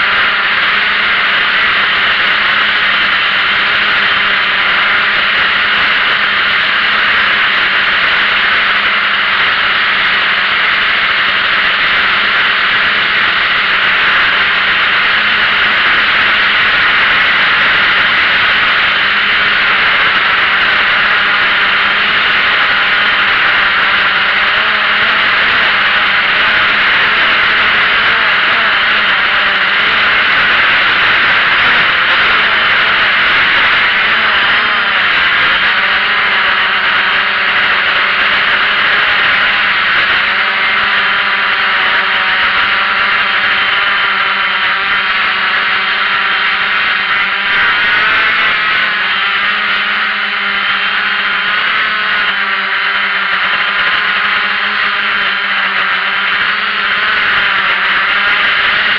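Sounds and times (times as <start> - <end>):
drone propellers whirring: 0.0 - 58.9.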